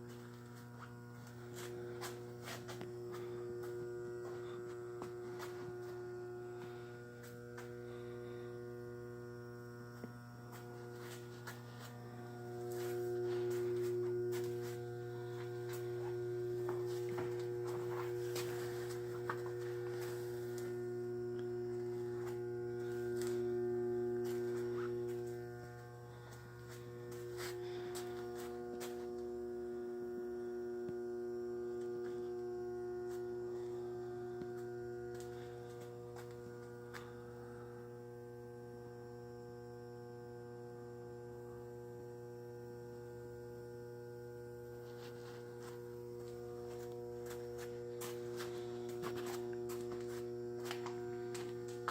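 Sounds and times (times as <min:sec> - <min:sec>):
electrical mains hum: 0:00.0 - 0:51.9.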